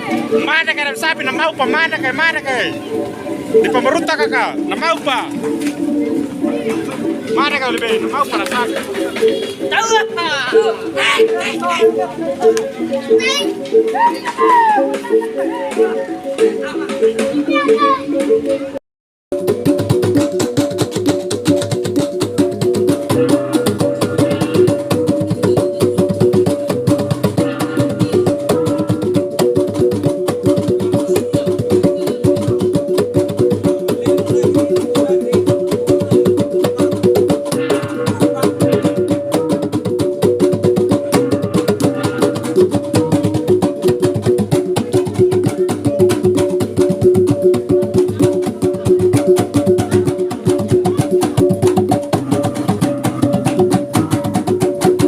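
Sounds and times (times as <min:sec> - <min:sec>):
rapid drumbeats: 0:00.0 - 0:12.5, 0:19.3 - 0:55.0.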